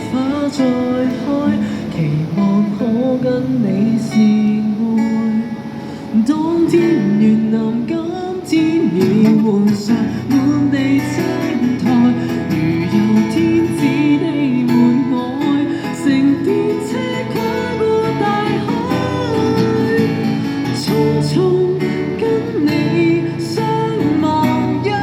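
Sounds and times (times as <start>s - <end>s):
acoustic guitar strumming: 0.0s - 25.0s
person singing: 0.0s - 25.0s.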